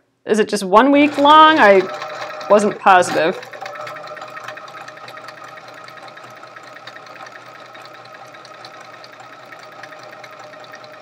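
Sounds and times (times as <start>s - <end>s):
sewing machine running: 0.9s - 11.0s.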